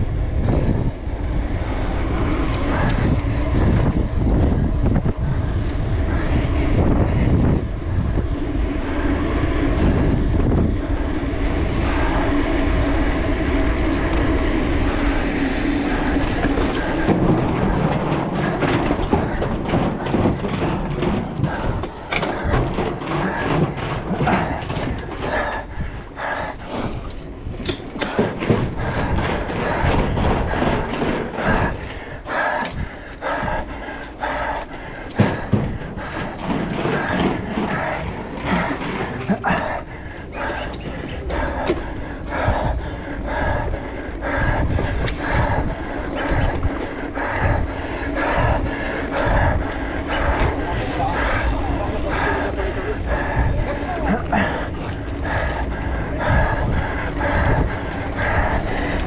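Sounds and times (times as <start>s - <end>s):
bike rattles and knocks: 0.0s - 59.0s
heavy breathing: 0.0s - 59.0s
steady low rumble: 0.0s - 59.0s.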